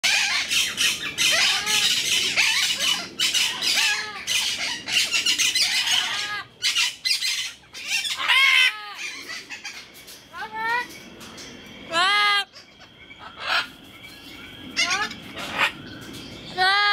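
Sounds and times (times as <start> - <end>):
parrots squawking: 0.0 - 10.5, 11.9 - 13.9, 14.7 - 15.8.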